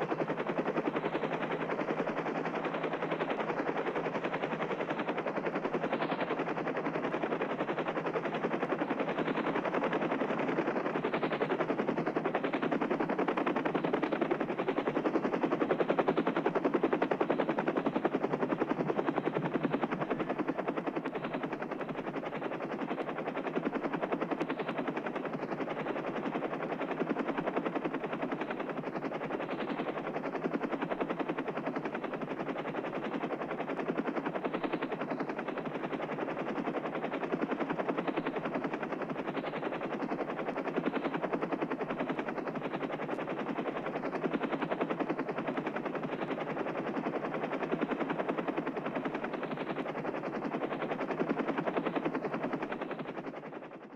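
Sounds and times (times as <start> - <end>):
helicopter rotor chop: 0.0 - 53.9.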